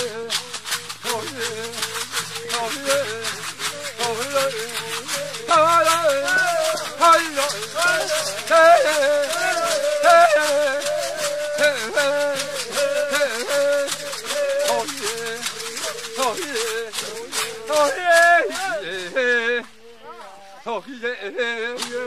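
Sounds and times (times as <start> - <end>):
wavering melody: 0.0 - 20.1
shaken rattle beat: 0.0 - 22.0.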